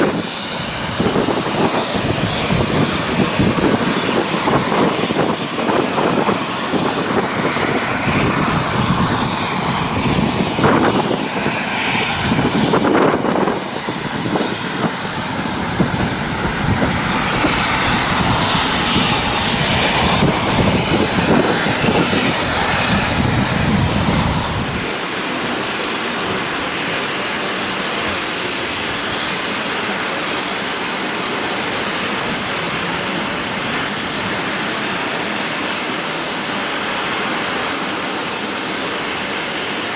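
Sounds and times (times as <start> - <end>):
steam hiss: 0.0 - 39.9.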